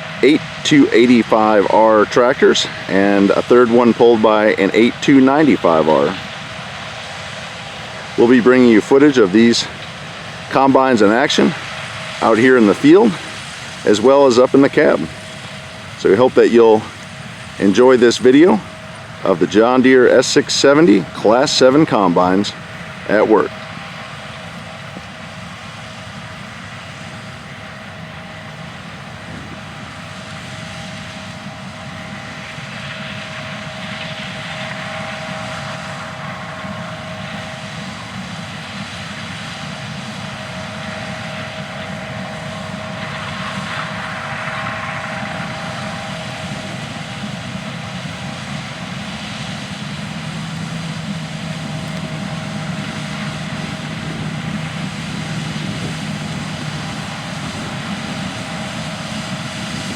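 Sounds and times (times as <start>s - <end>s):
combine harvester drone: 0.0s - 59.9s
low hum: 0.0s - 59.9s.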